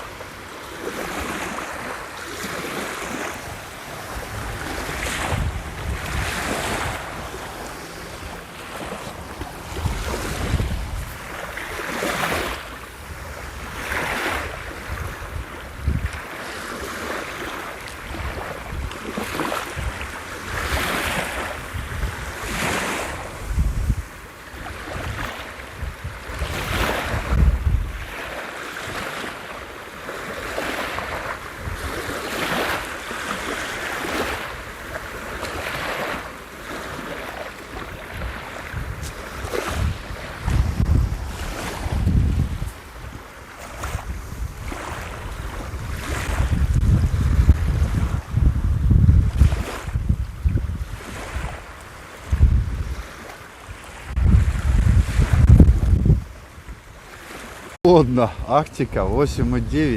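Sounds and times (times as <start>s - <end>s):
wind gusts on microphone: 0.0s - 29.4s, 30.2s - 59.9s
sea waves breaking on beach: 0.0s - 59.9s.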